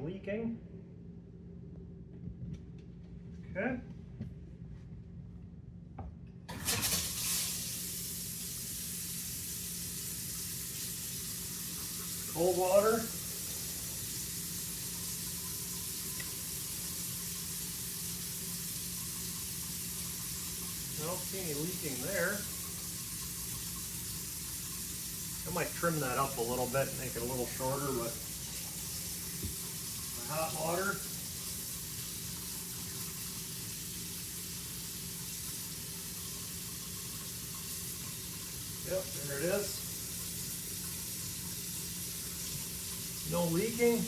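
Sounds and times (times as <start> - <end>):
faucet running water into sink: 6.5 - 44.0.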